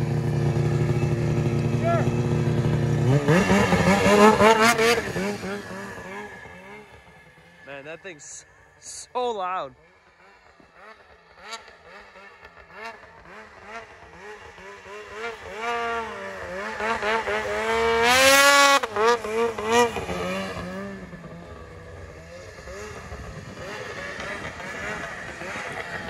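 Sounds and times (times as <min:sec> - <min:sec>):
snowmobile engine passing: 0:00.0 - 0:26.0.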